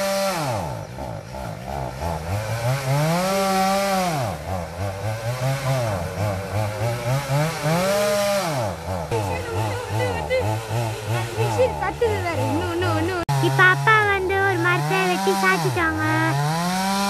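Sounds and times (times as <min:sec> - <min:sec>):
chainsaw revving while cutting wood: 0:00.0 - 0:17.0.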